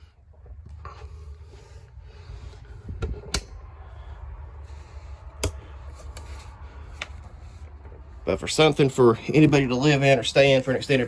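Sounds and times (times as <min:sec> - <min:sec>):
low rumble of handling noise: 0:00.0 - 0:11.0.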